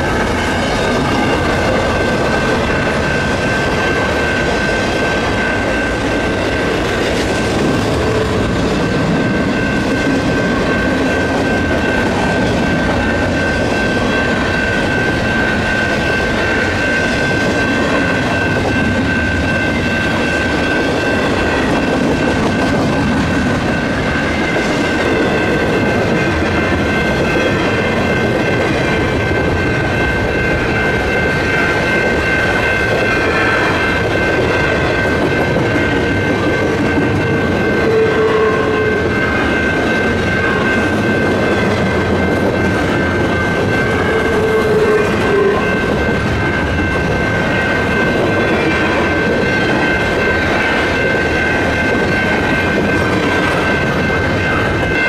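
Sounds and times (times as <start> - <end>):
freight train wheels rumbling: 0.0 - 55.0
high ringing tone: 0.0 - 55.0.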